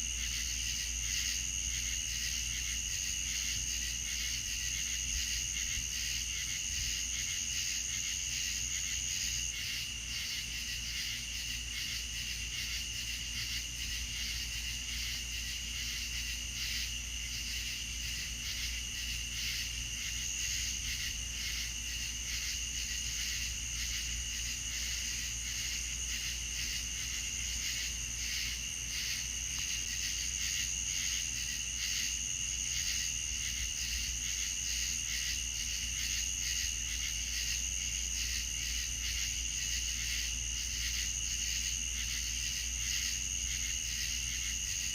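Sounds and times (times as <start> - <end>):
crickets chirping: 0.0 - 44.9
lower insect trill: 0.0 - 44.9.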